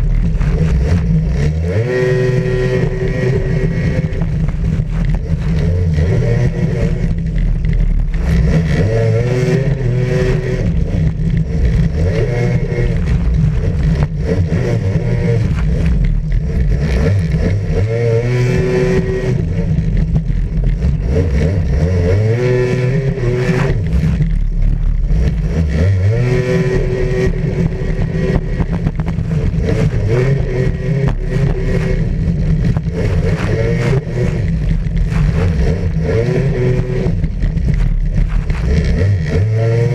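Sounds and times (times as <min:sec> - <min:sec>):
jet ski engine revving: 0:00.0 - 0:39.9.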